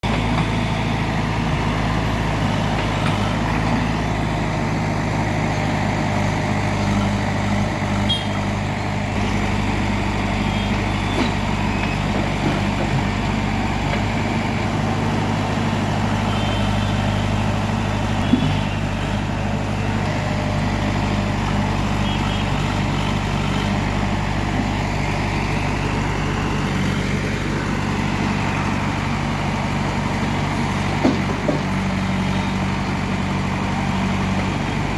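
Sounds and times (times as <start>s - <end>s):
diesel engine running: 0.0s - 34.9s
engine knocks: 0.0s - 34.9s.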